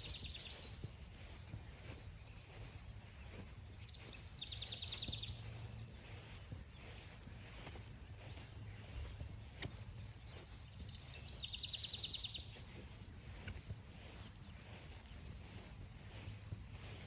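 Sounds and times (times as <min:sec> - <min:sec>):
crunching footsteps on trail: 0:00.0 - 0:17.0
songbird singing trill: 0:00.0 - 0:17.0.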